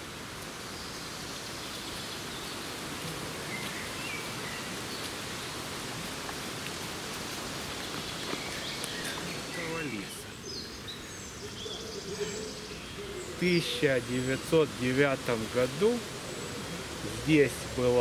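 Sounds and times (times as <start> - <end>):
steady forest hiss: 0.0 - 18.0.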